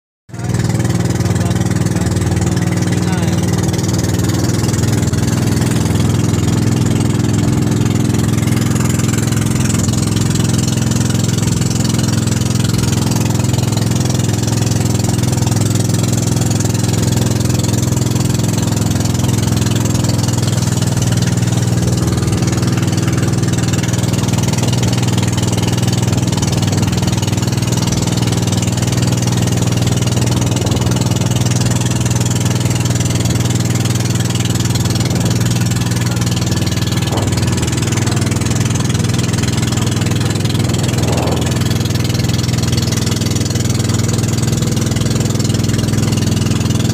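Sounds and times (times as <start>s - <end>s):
boat engine droning: 0.3s - 46.9s.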